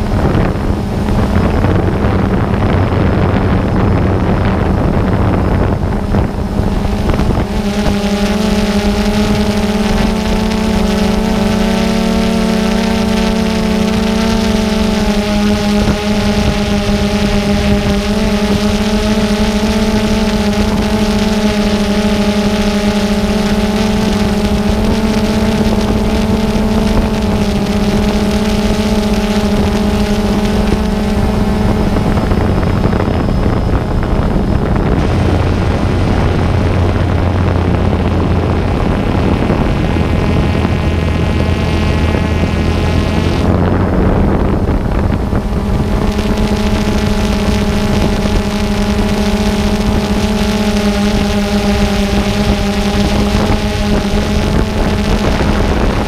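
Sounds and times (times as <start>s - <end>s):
drone motors humming: 0.0s - 56.0s
high-pitched drone whine: 0.0s - 56.0s.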